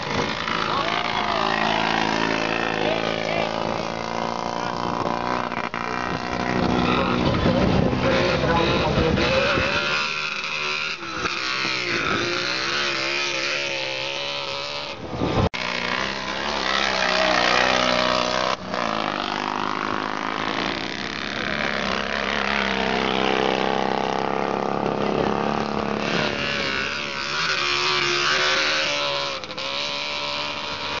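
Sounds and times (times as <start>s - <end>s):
motorcycle engines revving past: 0.0s - 31.0s.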